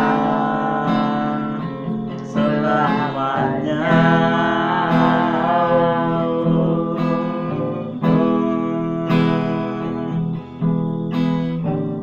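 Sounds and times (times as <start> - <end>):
person singing: 0.0 - 10.8
acoustic guitar strumming chords: 0.0 - 12.0.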